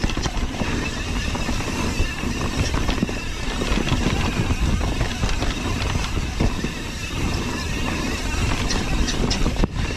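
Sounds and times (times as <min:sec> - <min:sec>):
bike chain and frame rattling: 0:00.0 - 0:09.9
tyres rolling over dirt: 0:00.0 - 0:09.9
wind on microphone: 0:00.0 - 0:09.9.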